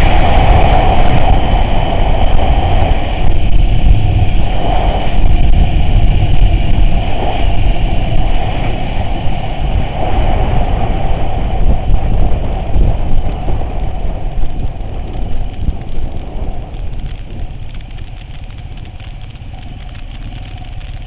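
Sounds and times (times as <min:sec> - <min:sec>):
off-road vehicle engine rumble: 0:00.0 - 0:21.0.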